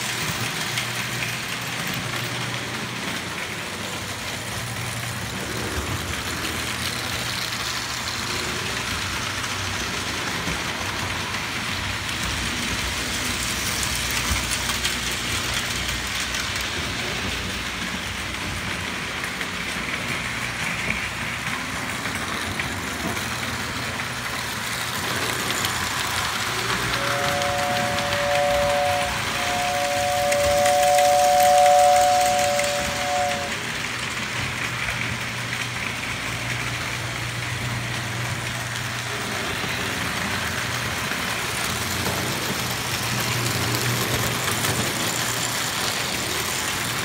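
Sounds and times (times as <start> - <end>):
toy train wheels clattering on rails: 0.0 - 47.0.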